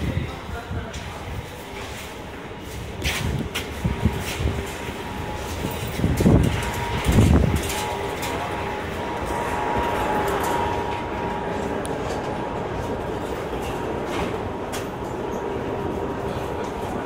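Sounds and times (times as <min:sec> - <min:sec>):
steady rumbling hum: 0:00.0 - 0:17.0.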